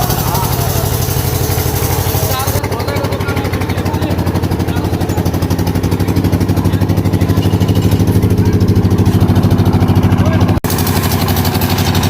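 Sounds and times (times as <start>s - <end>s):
concrete mixer engine chugging: 0.0s - 12.0s.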